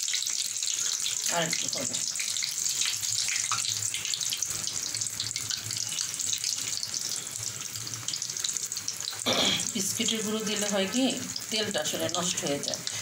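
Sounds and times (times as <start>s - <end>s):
oil sizzling deep-frying: 0.0s - 13.0s.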